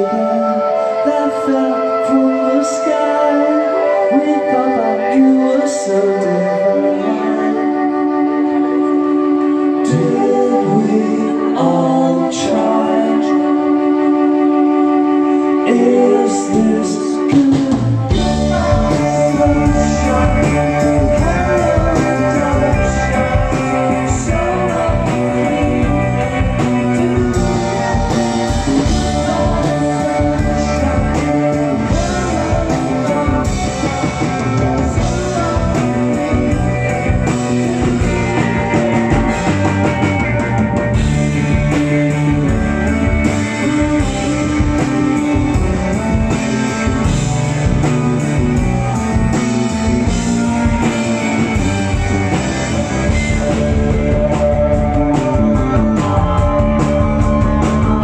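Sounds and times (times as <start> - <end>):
drums: 0.0 - 58.0
guitar: 0.0 - 58.0
person singing: 0.0 - 58.0.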